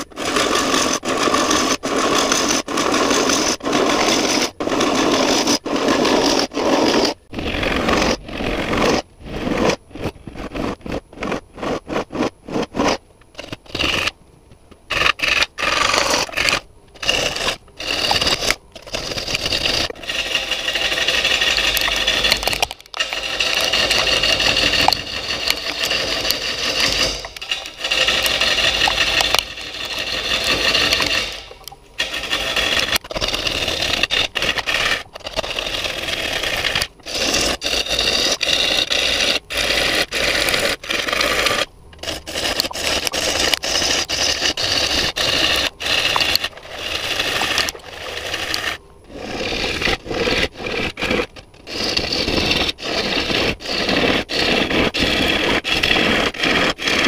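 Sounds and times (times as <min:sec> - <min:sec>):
lathe gouge scraping wood: 0:00.0 - 0:14.1, 0:14.9 - 0:57.0.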